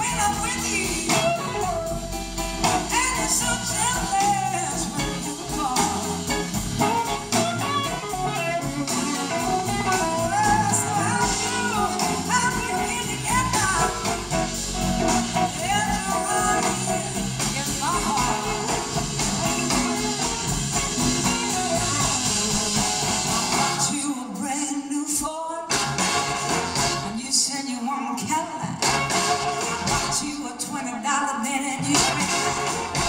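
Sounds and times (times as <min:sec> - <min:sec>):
woman singing: 0:00.0 - 0:22.9, 0:23.6 - 0:25.7, 0:27.0 - 0:29.0, 0:30.1 - 0:33.0
blues-rock band playing: 0:00.0 - 0:24.1, 0:25.7 - 0:27.2, 0:28.8 - 0:30.9, 0:31.8 - 0:33.0.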